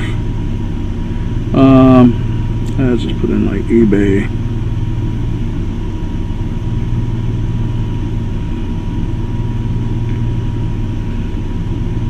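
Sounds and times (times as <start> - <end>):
faint high whine: 0.0 - 12.0
low mechanical hum: 0.0 - 12.0.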